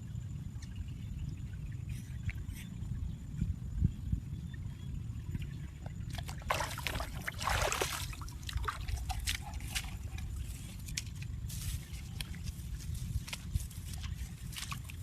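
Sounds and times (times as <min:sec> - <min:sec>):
water splashing and sloshing: 0:00.0 - 0:03.8, 0:04.5 - 0:15.0.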